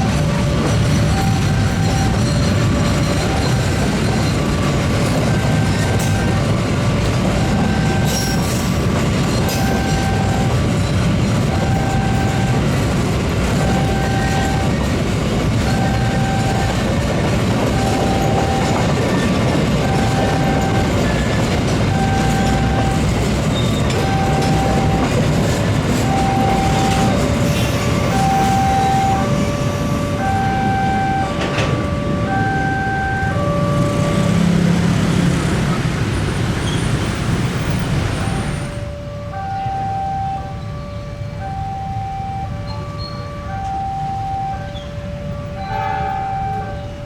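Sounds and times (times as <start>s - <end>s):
level crossing two-note alarm: 0.0s - 6.6s, 7.2s - 8.4s, 9.4s - 10.7s, 11.4s - 12.8s, 13.5s - 14.9s, 15.5s - 34.8s, 38.2s - 47.0s
train wheels on rails: 0.0s - 47.0s.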